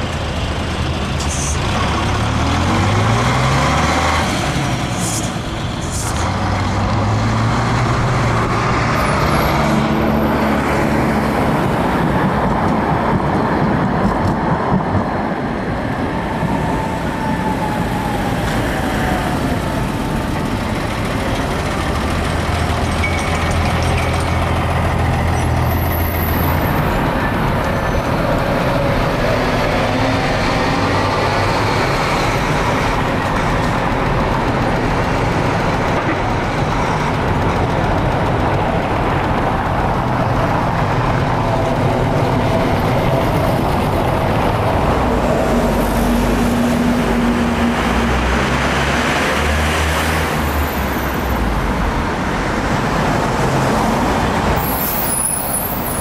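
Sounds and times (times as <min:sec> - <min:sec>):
bus diesel engine running: 0:00.0 - 0:56.0
street traffic engines running: 0:00.0 - 0:56.0.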